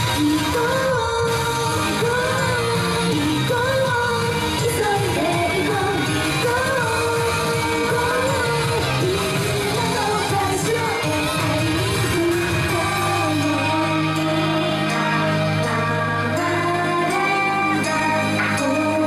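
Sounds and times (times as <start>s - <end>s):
group singing in unison: 0.0s - 19.0s
loud pop accompaniment: 0.0s - 19.0s.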